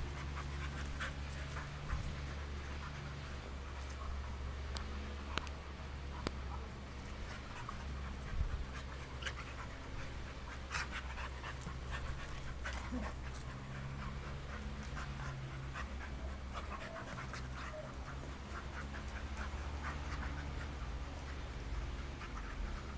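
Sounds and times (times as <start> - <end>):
dogs panting: 0.0 - 22.9
low steady rumble: 0.0 - 22.9.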